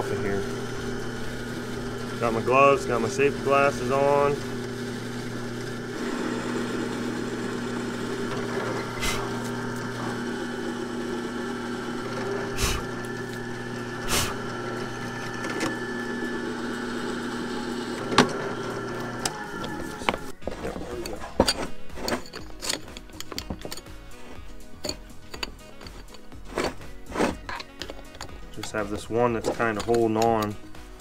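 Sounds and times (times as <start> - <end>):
drill press cutting steel: 0.0 - 30.8.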